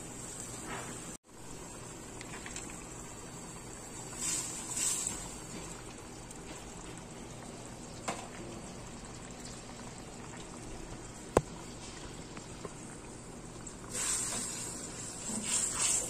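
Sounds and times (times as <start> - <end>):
sauce bubbling in a wok: 1.3 - 16.0.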